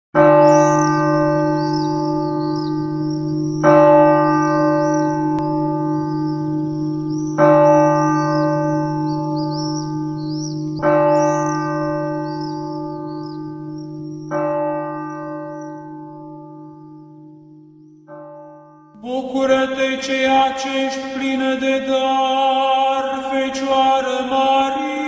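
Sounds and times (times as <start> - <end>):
church bell tolling: 0.2 - 25.0.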